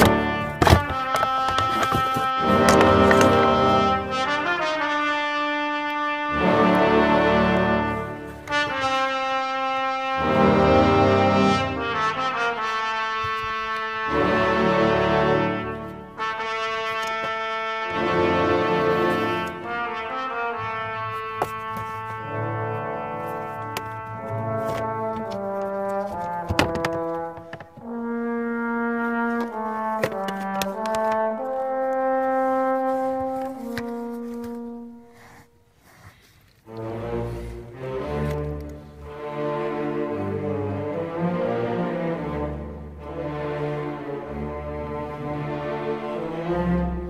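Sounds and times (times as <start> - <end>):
slow brass-like melody: 0.0 - 47.0.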